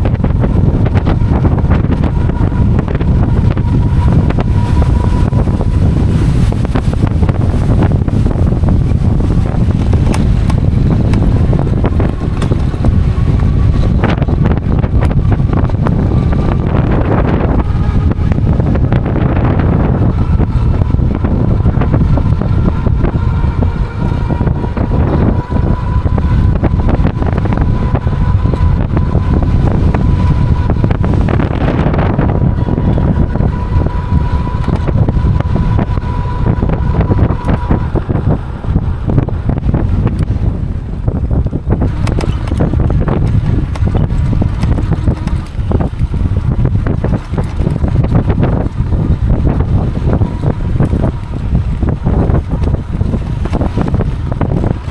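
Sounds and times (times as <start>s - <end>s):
thin steady whine: 0.0s - 54.9s
wind buffeting microphone: 0.0s - 54.9s.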